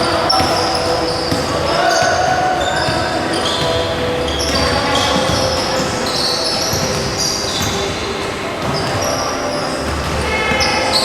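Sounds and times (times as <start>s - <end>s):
sneaker squeaks on gym floor: 0.0s - 11.0s
basketball bouncing: 0.2s - 9.2s, 9.8s - 11.0s.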